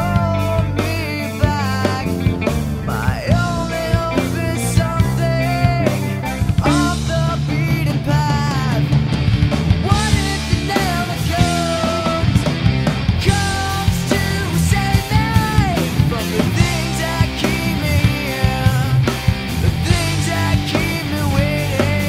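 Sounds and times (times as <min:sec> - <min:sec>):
rock song with drums and bass: 0:00.0 - 0:22.0.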